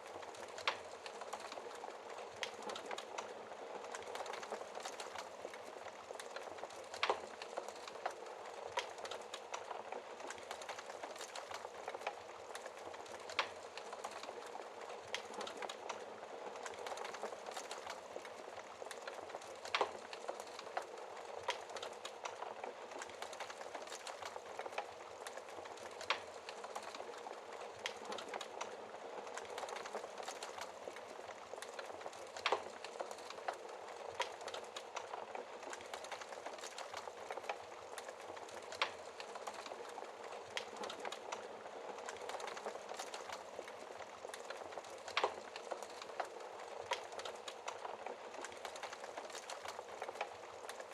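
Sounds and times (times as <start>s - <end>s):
fire popping: 0.0s - 50.9s
wood fire crackling: 0.0s - 50.9s.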